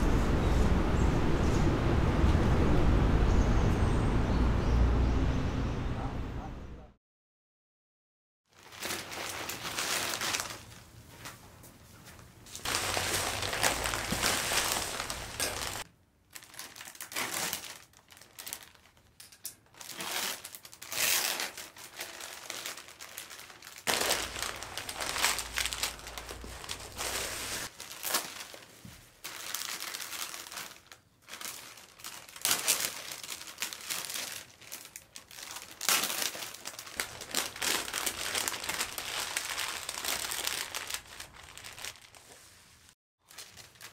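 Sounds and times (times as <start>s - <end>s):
plastic wrap crinkling: 8.5s - 43.9s.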